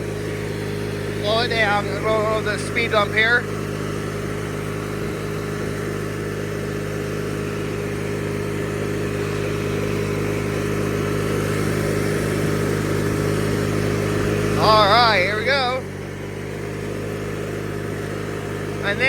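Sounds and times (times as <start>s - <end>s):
riding lawn mower engine running: 0.0s - 19.0s.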